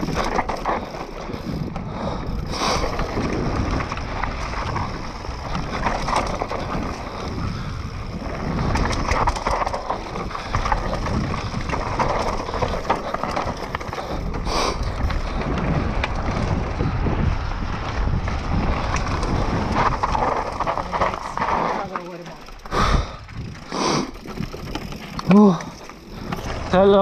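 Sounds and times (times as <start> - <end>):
bike rattling over bumps: 0.0 - 27.0
tyres on dirt: 0.0 - 27.0
wind rush on microphone: 0.0 - 27.0.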